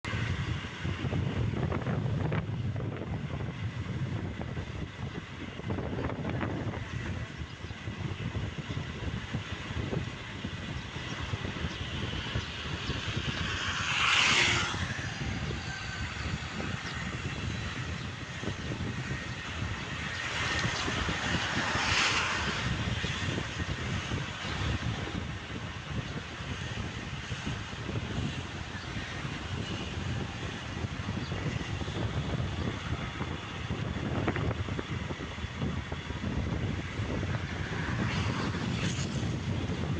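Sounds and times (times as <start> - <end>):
wind rumble: 0.0 - 39.9.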